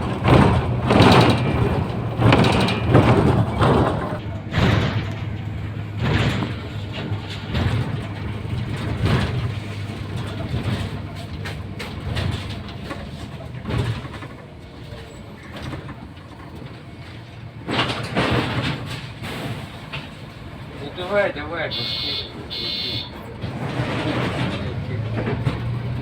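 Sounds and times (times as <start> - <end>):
knocks and rattles: 0.0 - 21.2, 23.1 - 26.0
bus engine hum: 0.0 - 26.0
road noise: 0.0 - 26.0.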